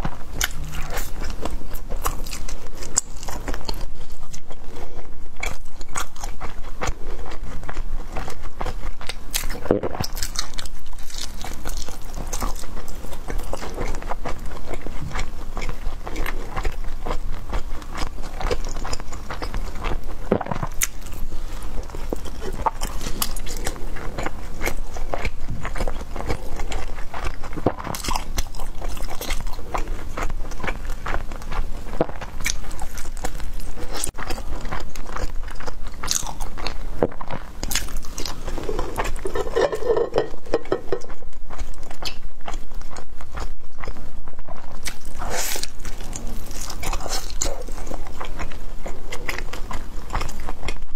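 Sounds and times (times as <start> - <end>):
chewing and biting food: 0.0 - 50.9.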